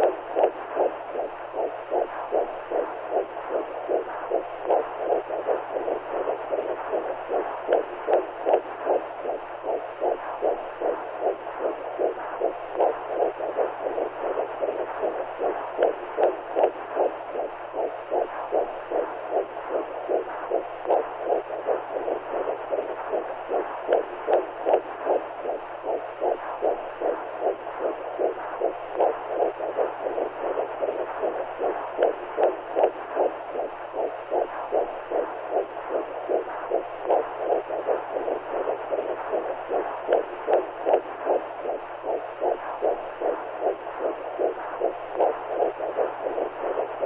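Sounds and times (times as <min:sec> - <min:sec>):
faint low hum: 0:00.0 - 0:47.0
whooshing heartbeat: 0:00.0 - 0:47.0.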